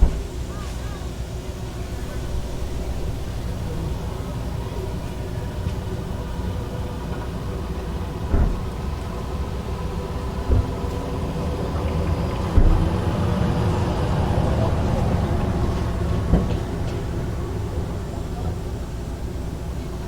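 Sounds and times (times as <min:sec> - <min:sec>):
rumble of vehicles: 0:00.0 - 0:20.0.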